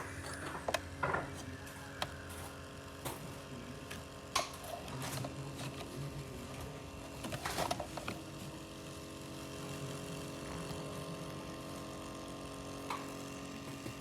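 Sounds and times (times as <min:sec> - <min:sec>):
coffee maker humming: 0:00.0 - 0:14.0.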